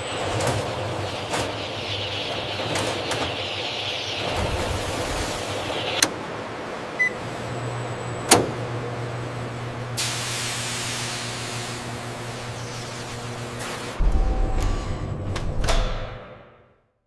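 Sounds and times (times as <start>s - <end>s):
steady mechanical hum: 0.0s - 16.1s.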